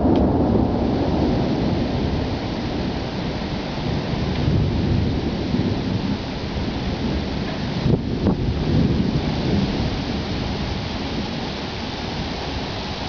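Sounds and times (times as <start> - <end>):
rain hissing: 0.0 - 13.0
thunder rumbling: 0.0 - 13.0.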